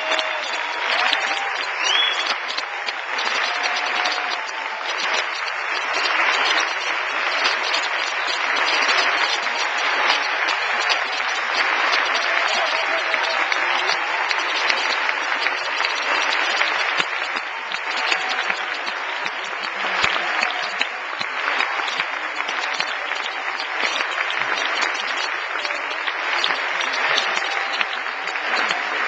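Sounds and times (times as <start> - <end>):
large audience applauding: 0.0 - 29.0.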